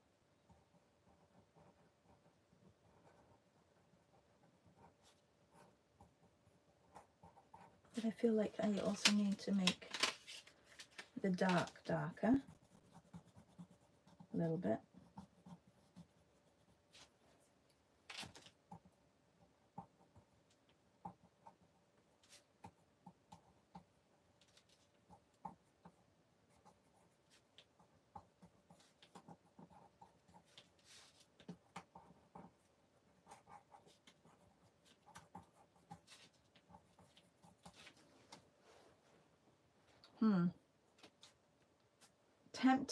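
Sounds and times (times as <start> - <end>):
pencil scratching on paper: 0.4 - 9.6, 11.2 - 17.6, 18.6 - 38.1.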